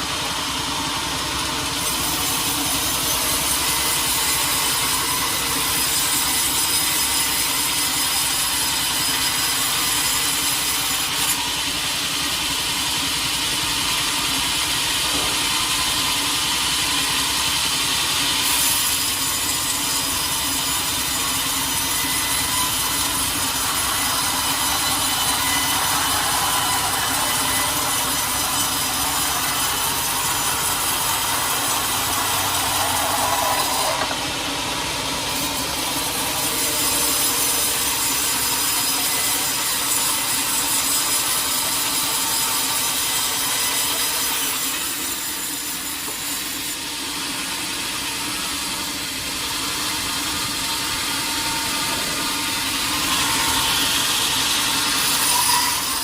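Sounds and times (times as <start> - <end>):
sawmill saw cutting log: 0.0 - 56.0.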